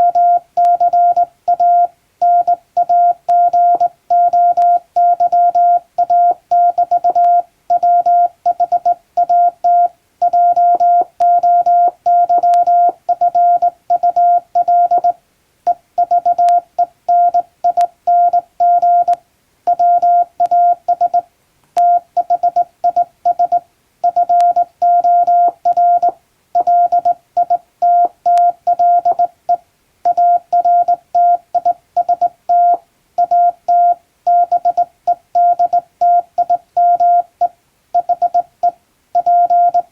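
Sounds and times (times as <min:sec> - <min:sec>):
morse code beeps: 0:00.0 - 0:21.2, 0:21.8 - 0:39.9.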